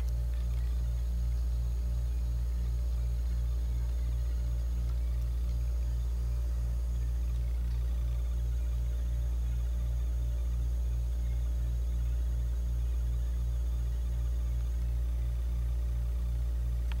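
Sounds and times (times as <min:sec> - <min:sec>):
regular pulsing: 0:00.0 - 0:17.0
steady low hum: 0:00.0 - 0:17.0.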